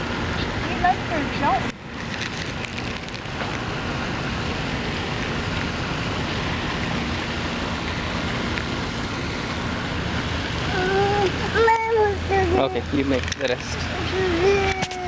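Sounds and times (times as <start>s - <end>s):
steady outdoor rushing noise: 0.0s - 15.0s.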